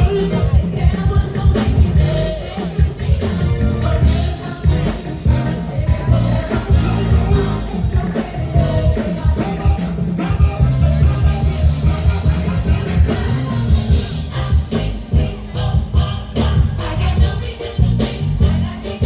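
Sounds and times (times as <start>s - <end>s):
music with heavy bass beat: 0.0s - 19.0s
singing: 0.0s - 19.0s.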